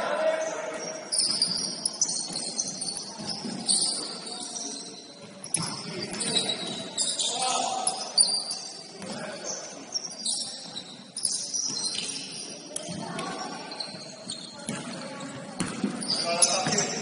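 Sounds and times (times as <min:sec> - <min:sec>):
shoes squeaking on gym floor: 0:00.4 - 0:17.0.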